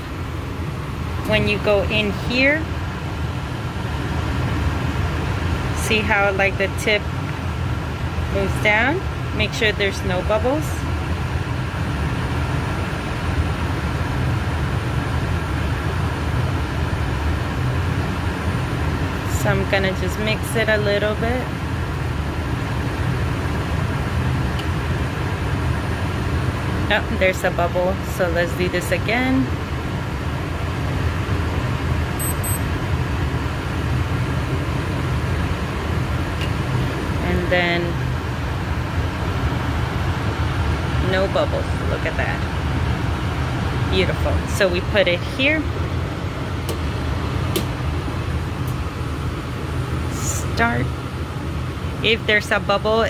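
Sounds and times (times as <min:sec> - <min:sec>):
ventilation blower rumble: 0:00.0 - 0:53.0.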